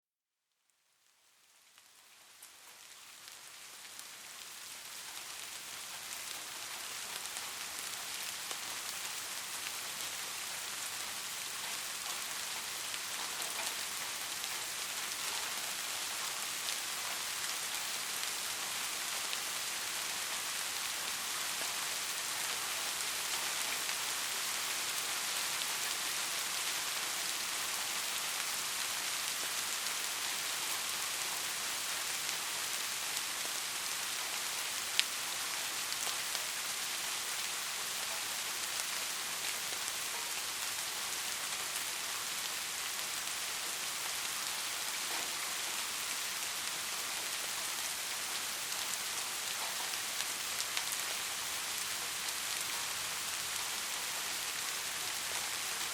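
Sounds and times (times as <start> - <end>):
soft rain falling: 0.4 - 55.9.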